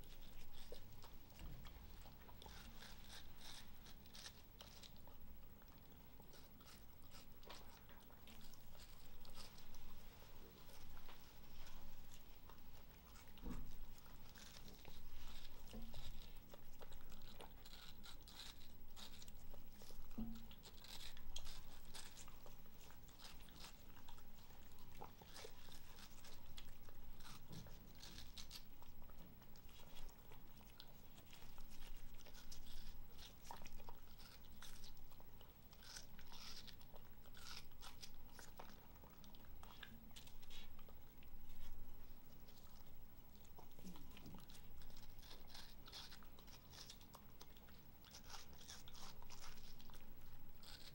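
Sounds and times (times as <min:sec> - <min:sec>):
dog chewing watermelon: 0:00.0 - 0:50.9.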